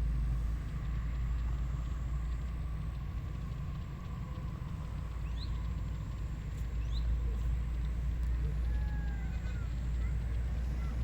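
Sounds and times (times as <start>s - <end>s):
faint constant hum: 0.0s - 11.0s.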